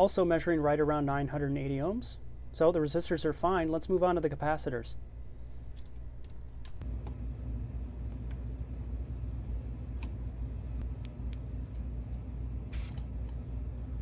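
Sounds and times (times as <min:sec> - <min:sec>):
low hum: 0:00.8 - 0:14.0.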